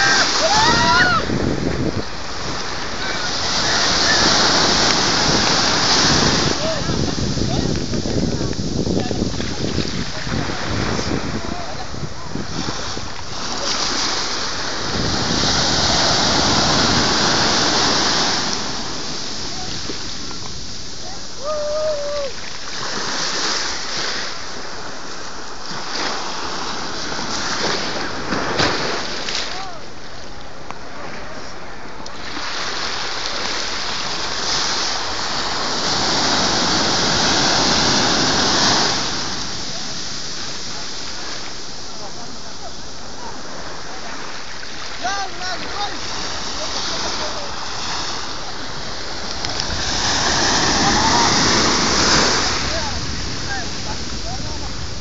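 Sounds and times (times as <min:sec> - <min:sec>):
small waves breaking: 0:00.0 - 0:55.0.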